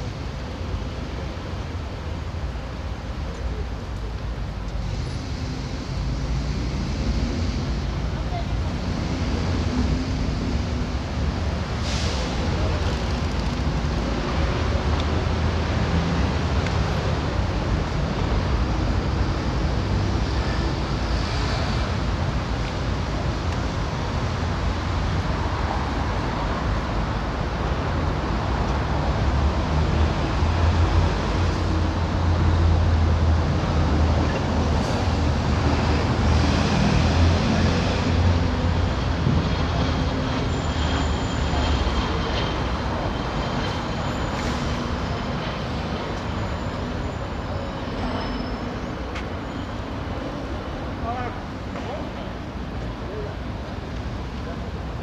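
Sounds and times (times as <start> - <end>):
bus passing: 0.0 - 55.0
street traffic: 0.0 - 55.0.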